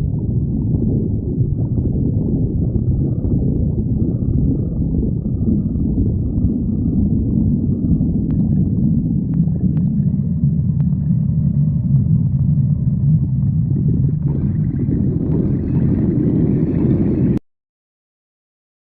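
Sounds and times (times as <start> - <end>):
stomach growling: 0.0 - 17.4.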